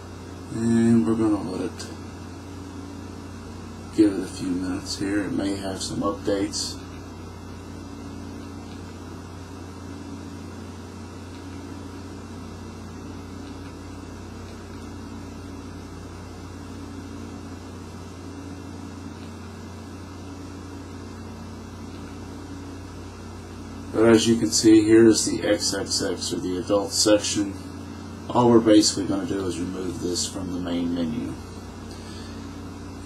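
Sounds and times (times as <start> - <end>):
low room hum with faint hiss: 0.0 - 33.0.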